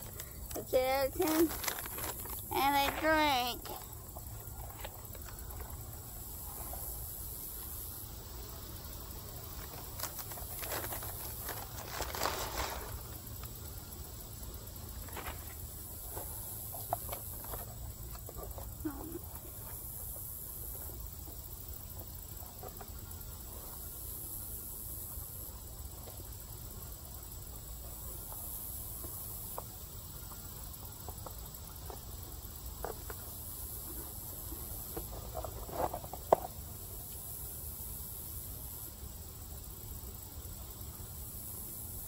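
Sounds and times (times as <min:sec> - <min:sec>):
high hiss: 0:00.0 - 0:35.1.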